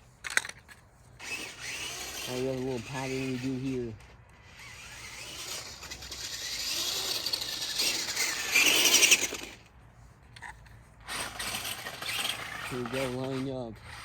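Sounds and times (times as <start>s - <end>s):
toy truck motor whining: 1.2s - 9.7s, 10.4s - 14.0s.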